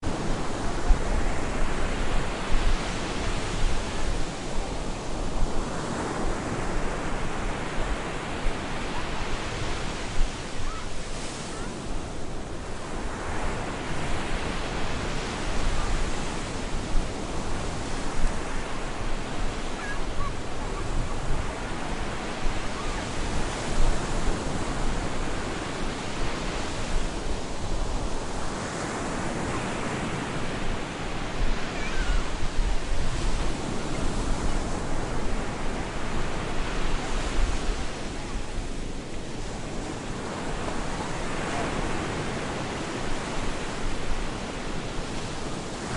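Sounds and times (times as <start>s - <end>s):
waves breaking on beach: 0.0s - 45.9s.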